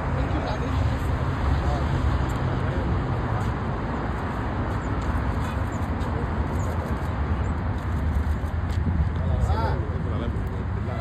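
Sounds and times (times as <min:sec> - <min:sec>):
traffic rumble and hiss: 0:00.0 - 0:11.0.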